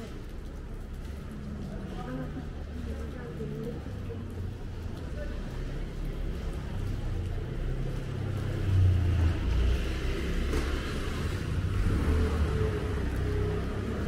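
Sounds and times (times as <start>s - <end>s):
street low rumble: 0.0s - 14.0s.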